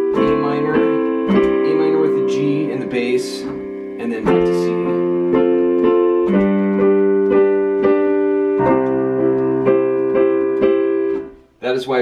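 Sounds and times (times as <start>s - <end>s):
piano chords on keyboard: 0.0s - 12.0s.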